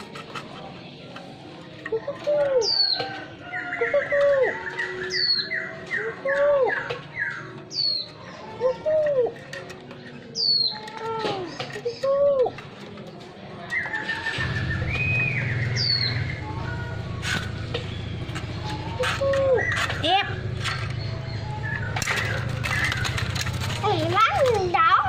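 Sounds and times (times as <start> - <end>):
doves cooing: 1.6 - 25.0.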